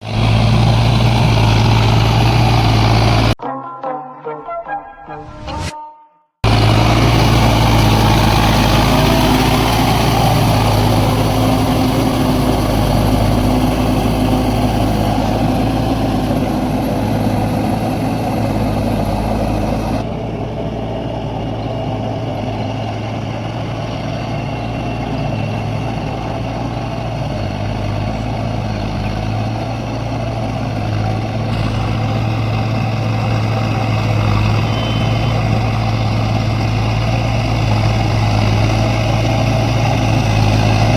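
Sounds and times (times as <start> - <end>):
tractor diesel engine running: 0.0 - 3.4, 6.4 - 40.9.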